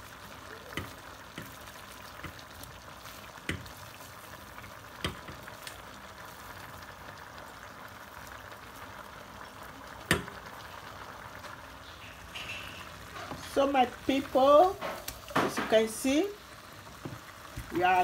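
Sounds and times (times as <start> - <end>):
soup sizzling in pot: 0.0 - 18.0.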